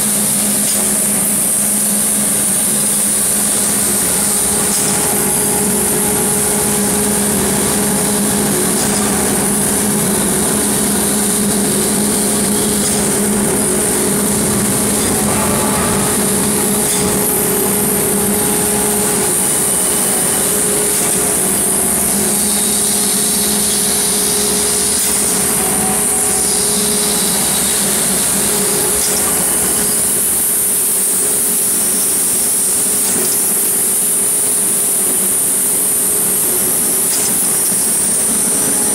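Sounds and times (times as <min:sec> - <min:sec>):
machine humming with hiss: 0:00.0 - 0:38.9.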